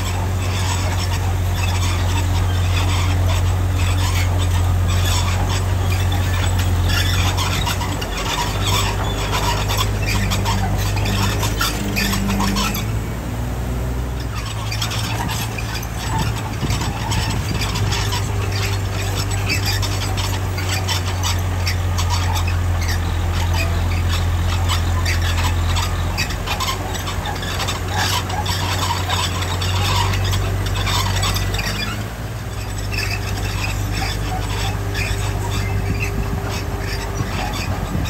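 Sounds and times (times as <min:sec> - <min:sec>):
bulldozer diesel engine droning: 0:00.0 - 0:38.0
tracks clattering and squeaking: 0:00.0 - 0:38.0.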